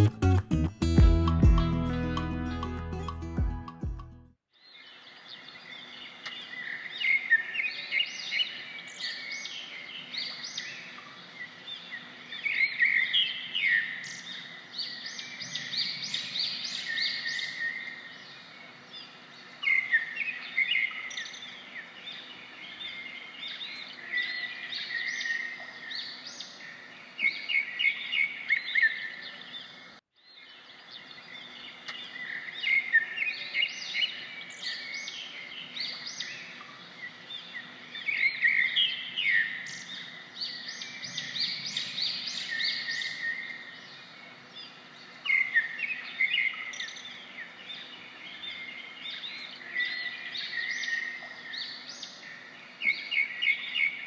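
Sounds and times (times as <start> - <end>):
small birds chirping: 4.5 - 54.0.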